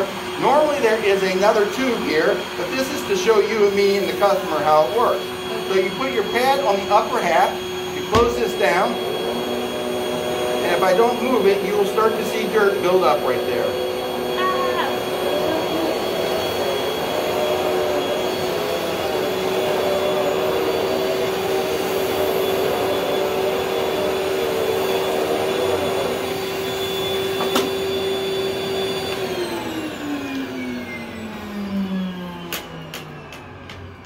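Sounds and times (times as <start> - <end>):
vacuum cleaner whining: 0.0 - 34.0.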